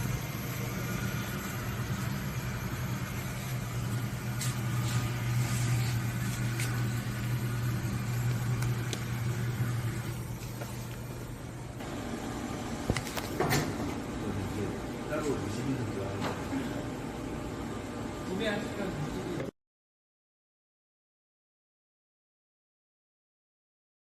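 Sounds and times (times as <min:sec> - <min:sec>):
machine motor hum: 0:00.0 - 0:19.5.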